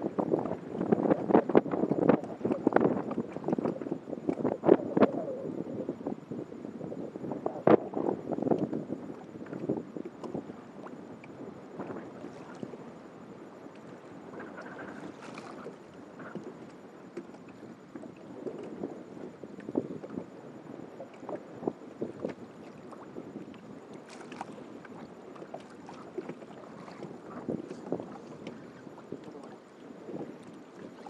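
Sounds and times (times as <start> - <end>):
water lapping against kayak hull: 0.0 - 31.0
wind on microphone: 0.0 - 31.0.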